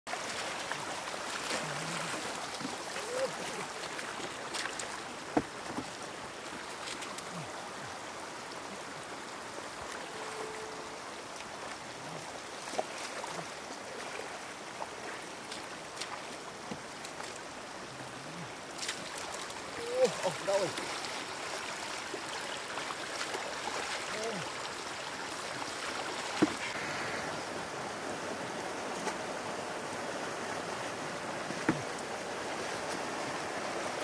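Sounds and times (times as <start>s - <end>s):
floodwater running over road: 0.1s - 34.0s.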